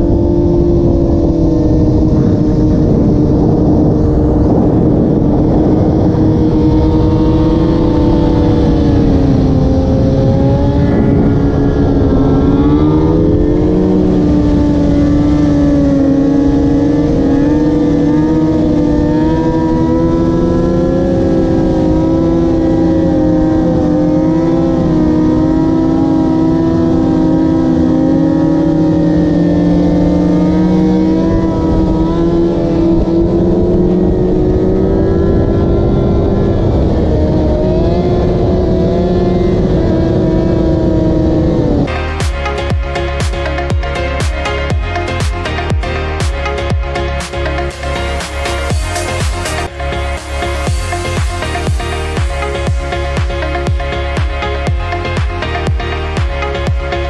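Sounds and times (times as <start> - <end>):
motorcycle engine running: 0.0 - 57.0
wind rumbling on microphone: 0.0 - 57.0.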